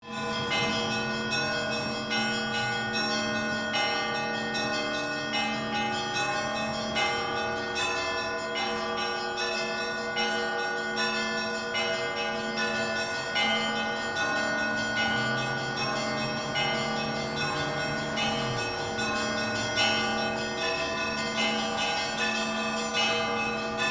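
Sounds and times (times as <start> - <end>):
large bells humming: 0.0 - 23.9
small church bells ringing: 0.0 - 23.9.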